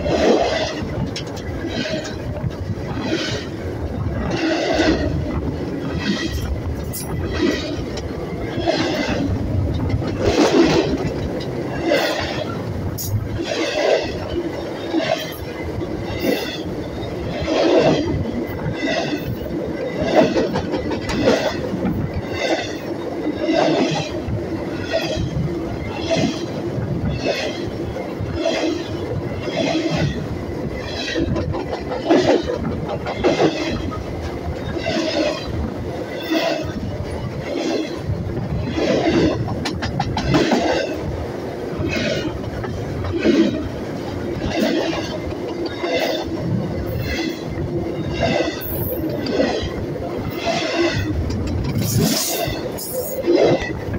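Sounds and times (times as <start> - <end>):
metal wheels screeching on rail: 0.0 - 53.9
train wheels rolling over rails: 0.0 - 53.9.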